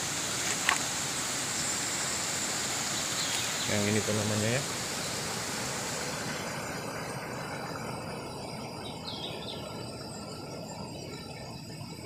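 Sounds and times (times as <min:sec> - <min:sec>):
stream water over rocks: 0:00.0 - 0:12.0.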